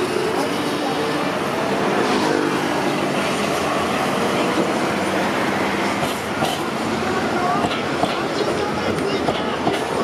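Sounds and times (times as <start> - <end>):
tram running past: 0.0 - 10.0.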